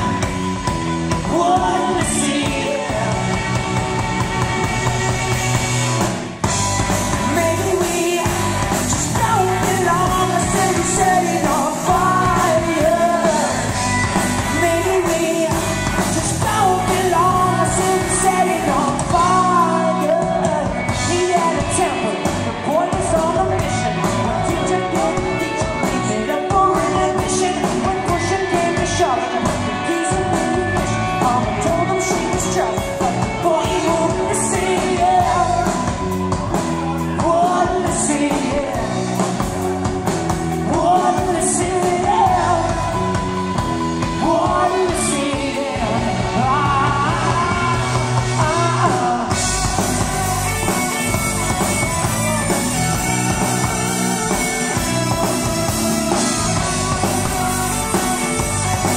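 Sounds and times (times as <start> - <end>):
person singing: 0.0 - 6.0, 6.8 - 58.9
rock band playing: 0.0 - 58.9.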